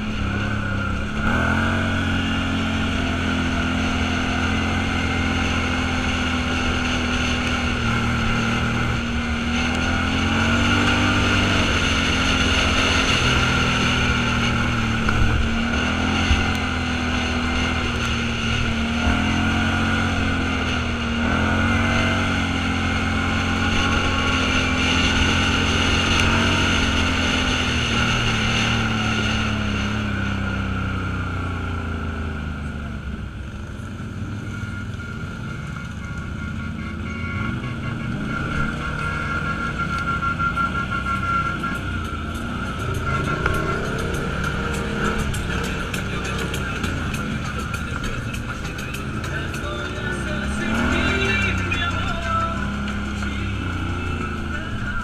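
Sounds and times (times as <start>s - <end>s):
driving noise rush: 0.0s - 55.0s
off-road vehicle engine: 0.0s - 55.0s.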